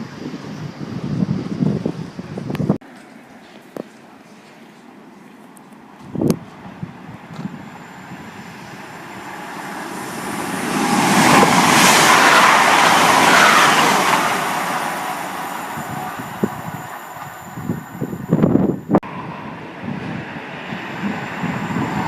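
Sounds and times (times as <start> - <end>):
train passing at speed: 4.0 - 22.0.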